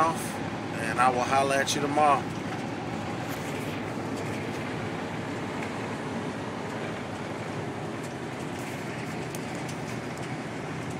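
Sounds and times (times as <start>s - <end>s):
truck engine and road noise: 0.0s - 10.9s.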